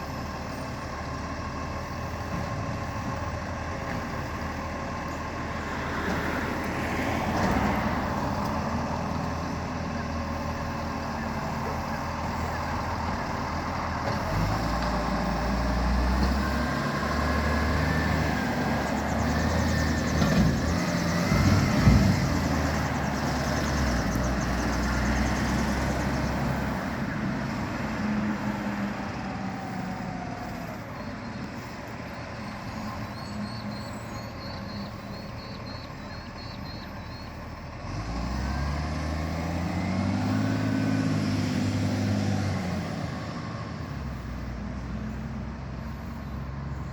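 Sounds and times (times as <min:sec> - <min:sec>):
garbage truck diesel engine: 0:00.0 - 0:46.9.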